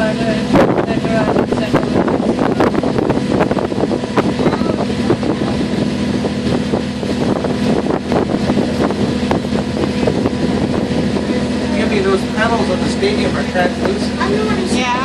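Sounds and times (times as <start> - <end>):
boat engine humming: 0.0 - 15.0
wind buffeting microphone: 0.0 - 15.0.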